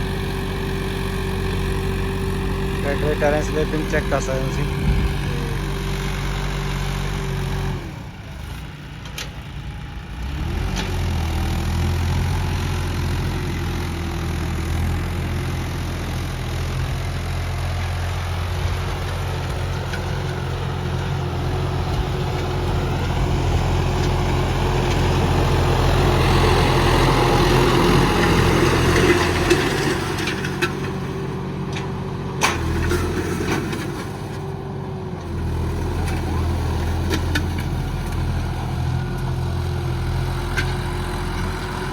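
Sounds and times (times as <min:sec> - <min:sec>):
diesel tractor engine under load: 0:00.0 - 0:41.9.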